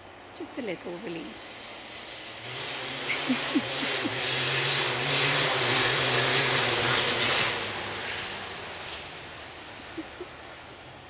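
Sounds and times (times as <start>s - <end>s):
motor vehicle passing by: 1.1s - 11.0s.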